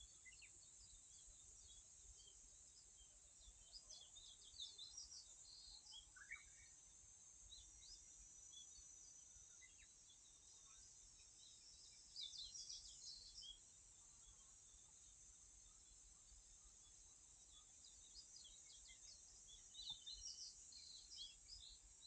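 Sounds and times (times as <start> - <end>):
small birds chirping: 0.0 - 6.8, 7.4 - 22.0.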